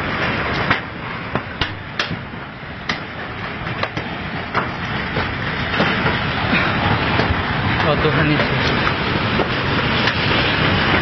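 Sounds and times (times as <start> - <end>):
building shaking rough noise: 0.0 - 11.0.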